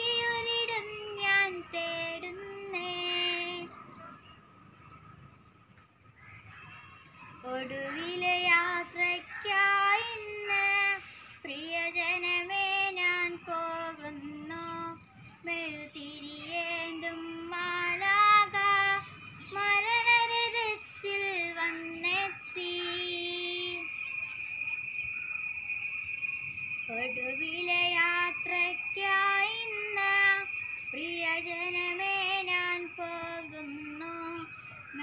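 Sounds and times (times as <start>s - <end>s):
girl singing: 0.0s - 3.8s, 7.4s - 24.0s, 26.9s - 35.0s
steady high whine: 0.0s - 35.0s.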